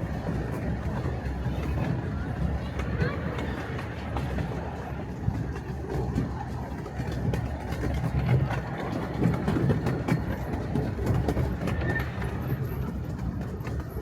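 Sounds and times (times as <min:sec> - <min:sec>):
miniature train rumbling: 0:00.0 - 0:14.0.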